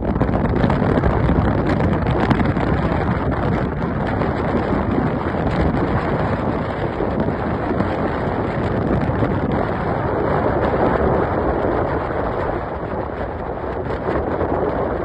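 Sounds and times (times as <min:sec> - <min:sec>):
boat engine running: 0:00.0 - 0:15.0
rushing wind on microphone: 0:00.0 - 0:15.0
water noise: 0:00.0 - 0:15.0.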